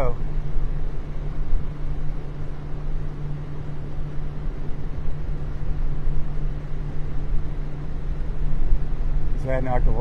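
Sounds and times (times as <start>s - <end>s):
boat motor running: 0.0s - 10.0s
wind rumbling on microphone: 0.0s - 10.0s.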